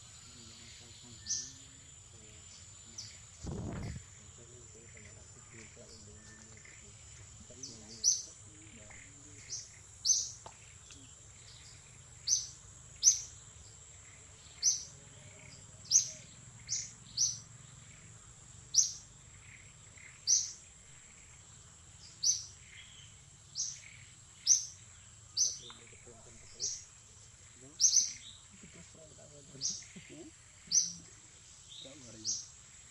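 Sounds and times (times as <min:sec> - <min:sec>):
bird chirping: 0:00.0 - 0:32.9
high-pitched insect drone: 0:00.0 - 0:32.9.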